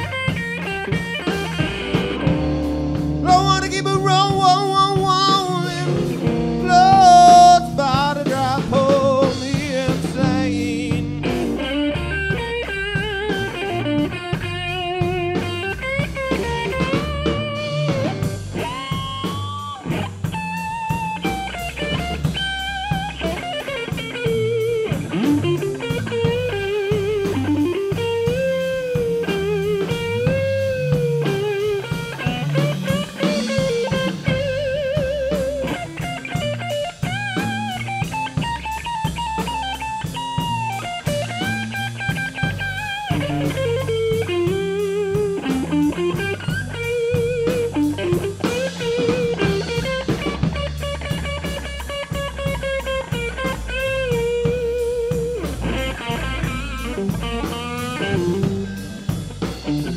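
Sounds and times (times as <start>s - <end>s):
drum kit: 0.0s - 59.9s
electric guitar solo: 0.0s - 59.9s.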